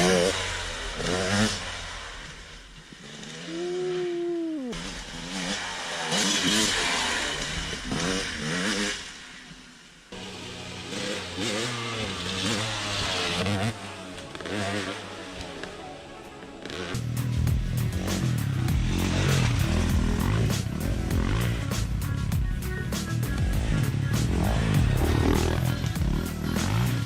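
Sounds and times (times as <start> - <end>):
dirt bike engine revving: 0.0 - 15.8, 16.6 - 27.0.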